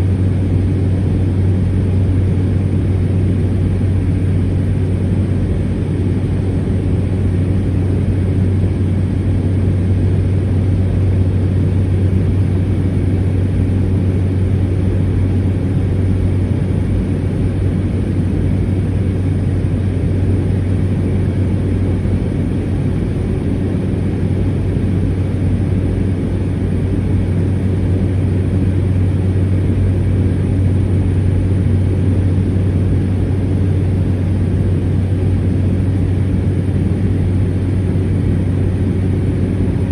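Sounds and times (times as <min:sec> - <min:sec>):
turboprop engine droning: 0:00.0 - 0:39.9.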